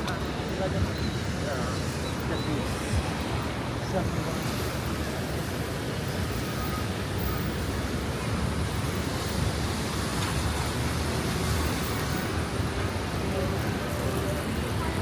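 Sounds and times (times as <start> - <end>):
passing vehicles rumbling: 0.0 - 15.0
traffic hiss: 0.0 - 15.0.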